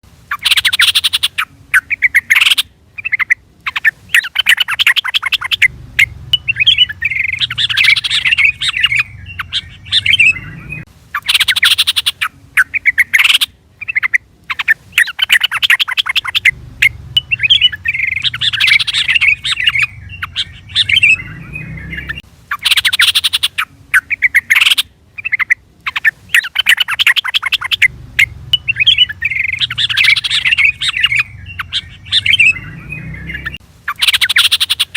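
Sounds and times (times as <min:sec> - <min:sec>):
bird chattering call: 0:00.3 - 0:34.9.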